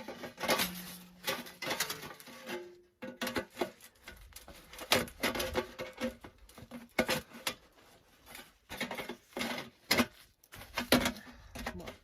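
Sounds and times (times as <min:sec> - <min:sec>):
metal pipes scraping and clinking: 0:00.0 - 0:12.0.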